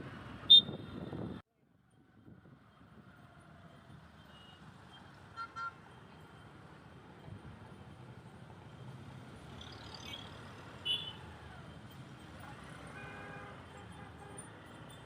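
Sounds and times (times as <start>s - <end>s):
road traffic rumble: 2.1s - 15.0s.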